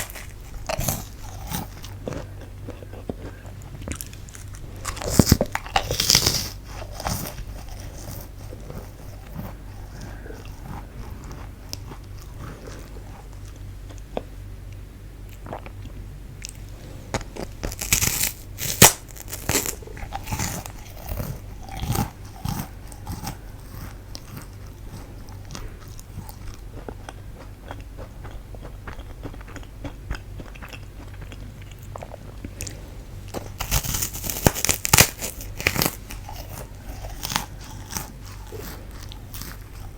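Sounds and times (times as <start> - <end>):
crunchy snack bites: 0.0 - 14.0, 16.4 - 39.9
soft chewing: 0.0 - 39.9.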